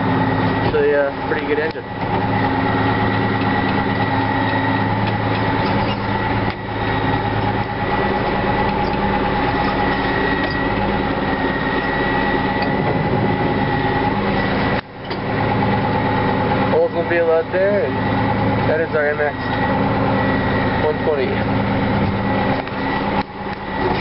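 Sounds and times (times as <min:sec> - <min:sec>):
high whine: 0:00.0 - 0:24.0
tractor diesel engine running: 0:00.0 - 0:24.0.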